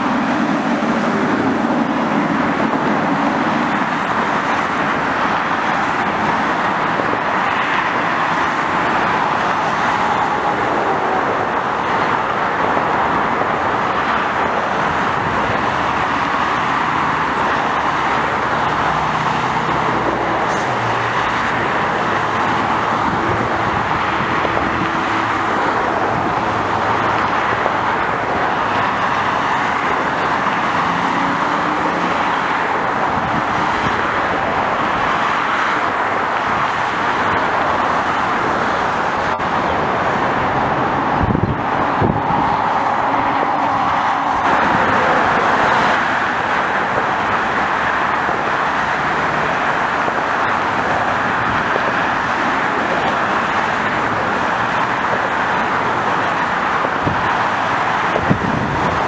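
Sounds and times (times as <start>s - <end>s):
dense highway traffic: 0.0s - 59.0s.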